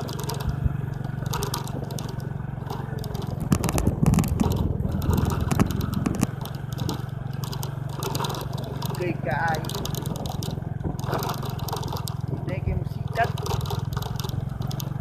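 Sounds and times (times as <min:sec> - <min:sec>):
bicycle rattling: 0:00.0 - 0:15.0
steady low rumble: 0:00.0 - 0:15.0
tyres crunching over loose ground: 0:00.0 - 0:15.0.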